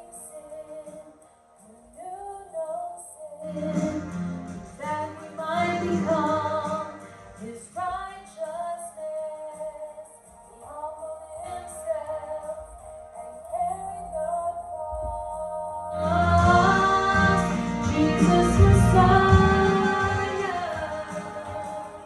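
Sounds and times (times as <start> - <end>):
woman singing worship music: 0.0 - 22.0
congregation worship music: 3.5 - 22.0.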